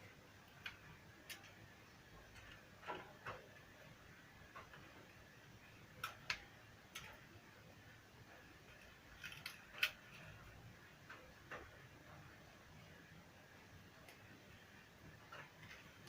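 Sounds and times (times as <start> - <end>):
faint room noise: 0.0 - 16.0.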